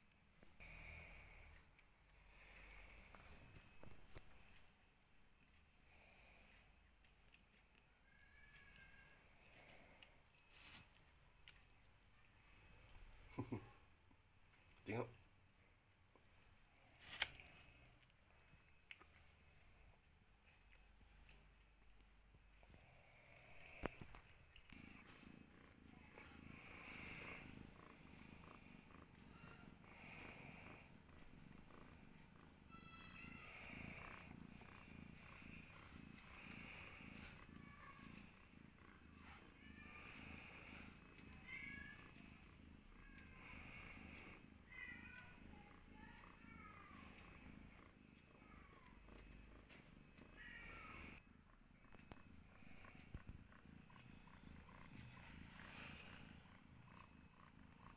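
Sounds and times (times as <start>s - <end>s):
cat purring: 0.0s - 57.9s.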